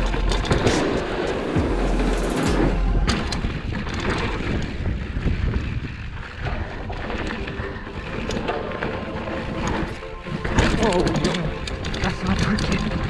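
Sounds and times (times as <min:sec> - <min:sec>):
bike knocks and rattles: 0:00.0 - 0:13.0
tyres rumbling over dirt: 0:00.0 - 0:13.0
wind buffeting microphone: 0:00.6 - 0:13.0.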